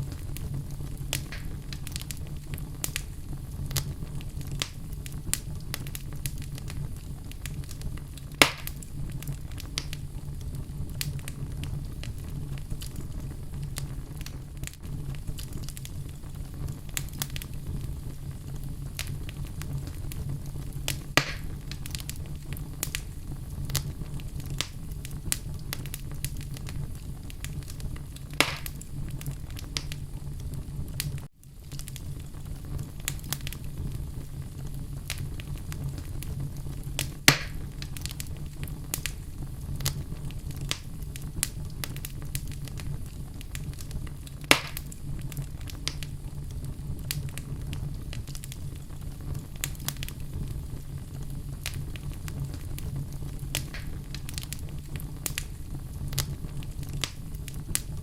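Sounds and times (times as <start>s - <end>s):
fire crackling: 0.0s - 58.0s
fire flames rumbling: 0.0s - 58.0s
wood fire popping: 0.0s - 58.0s.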